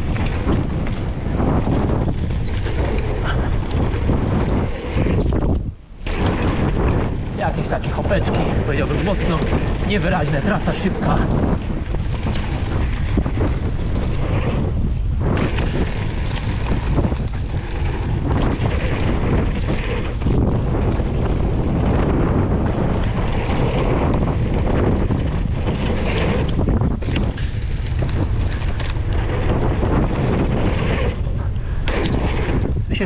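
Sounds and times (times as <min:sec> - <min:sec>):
bike tyres rumbling on dirt: 0:00.0 - 0:33.0
wind rushing over microphone: 0:00.0 - 0:33.0.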